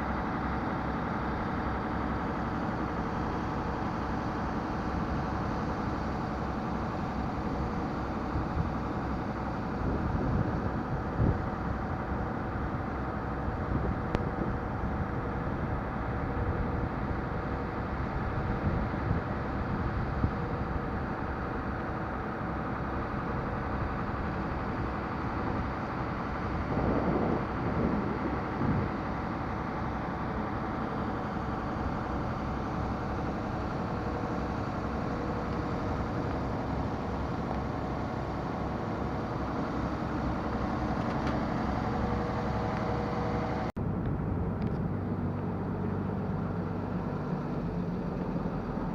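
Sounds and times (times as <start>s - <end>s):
ferry engine humming: 0.0s - 48.9s.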